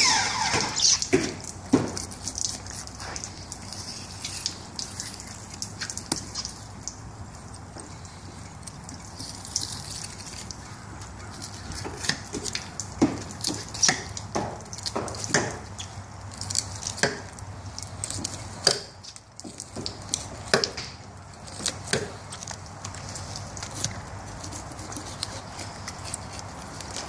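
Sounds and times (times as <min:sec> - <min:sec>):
knife slicing and scraping fish: 0:00.0 - 0:06.6, 0:07.9 - 0:27.0.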